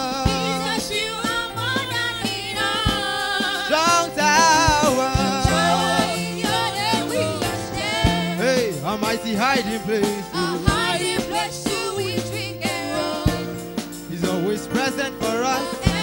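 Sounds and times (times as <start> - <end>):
bass notes: 0.0 - 16.0
drum hits: 0.0 - 16.0
keyboard: 0.0 - 16.0
person singing gospel: 0.0 - 16.0.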